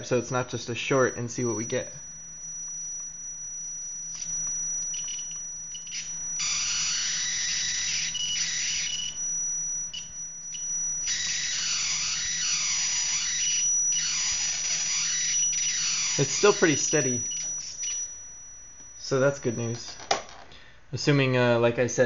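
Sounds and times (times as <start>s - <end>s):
high-voltage arc buzzing: 0.0s - 20.3s
steady high-pitched whine: 0.0s - 20.4s.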